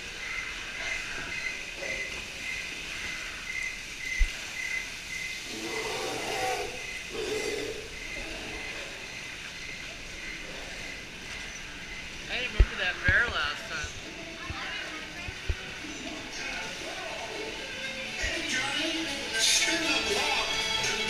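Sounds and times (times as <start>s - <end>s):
water hiss and ride noise: 0.0s - 21.0s.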